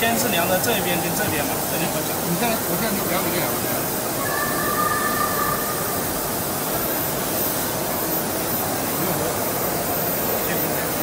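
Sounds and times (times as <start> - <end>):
steady machinery noise: 0.0 - 11.0.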